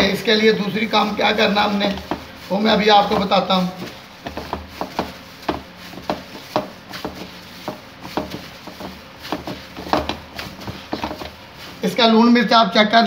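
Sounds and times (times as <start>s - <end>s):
hand slapping minced meat in bowl: 1.0s - 11.8s.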